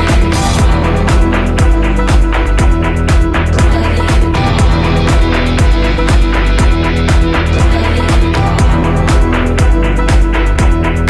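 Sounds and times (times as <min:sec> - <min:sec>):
loud music with kick drum: 0:00.0 - 0:11.0.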